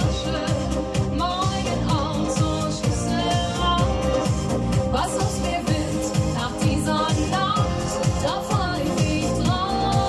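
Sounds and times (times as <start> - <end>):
pop backing track through speakers: 0.0 - 10.0
woman singing into microphone: 0.0 - 10.0.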